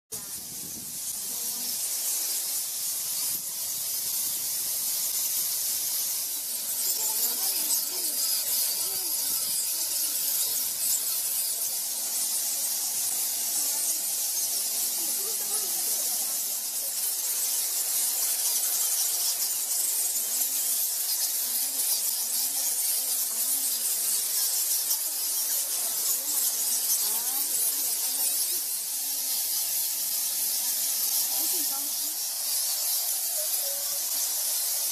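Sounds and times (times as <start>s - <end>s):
fruit bats squeaking and chattering: 0.1s - 34.9s
lower bat chirps: 0.1s - 34.9s.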